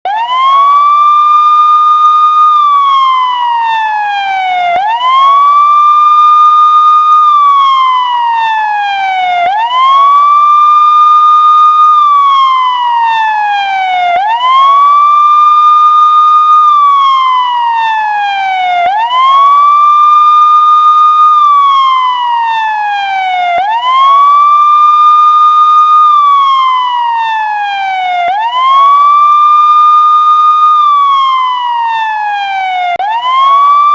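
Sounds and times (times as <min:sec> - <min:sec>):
police siren wailing: 0:00.0 - 0:33.9.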